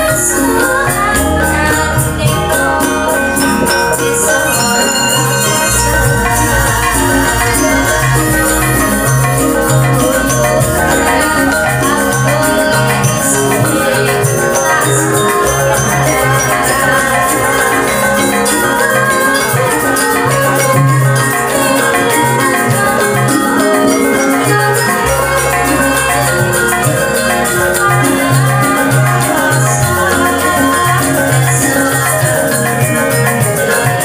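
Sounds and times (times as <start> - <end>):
ringing metallophones: 0.0 - 34.0
woman singing into a microphone: 0.0 - 34.0.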